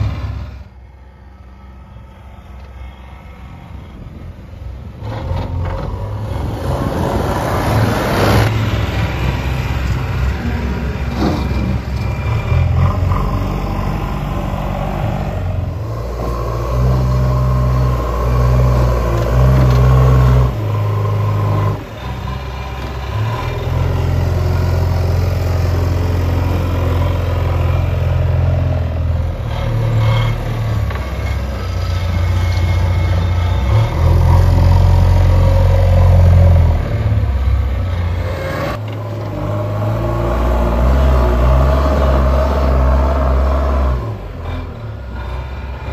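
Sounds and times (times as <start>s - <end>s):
diesel engines revving: 0.0s - 45.9s.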